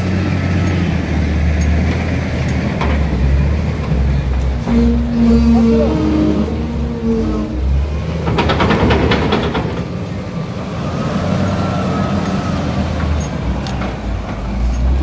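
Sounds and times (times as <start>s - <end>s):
wheel loader diesel engine: 0.0s - 15.0s.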